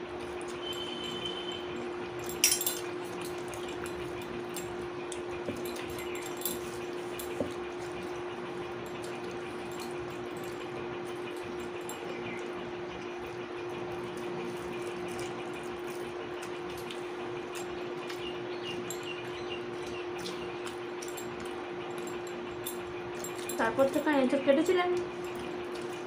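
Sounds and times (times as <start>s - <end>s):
utensil clicks and clinks: 0.2s - 12.6s, 14.1s - 26.0s.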